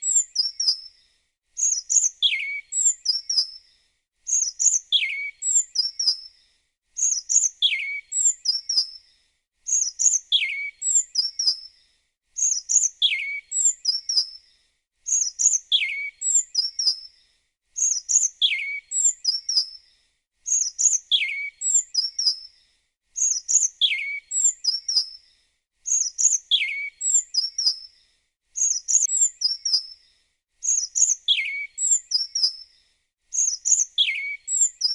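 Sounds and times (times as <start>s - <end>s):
small songbird chirping: 0.0s - 34.9s.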